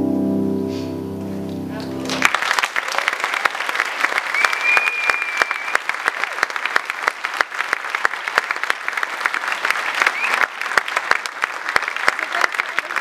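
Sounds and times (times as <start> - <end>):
audience applauding: 1.5 - 13.0.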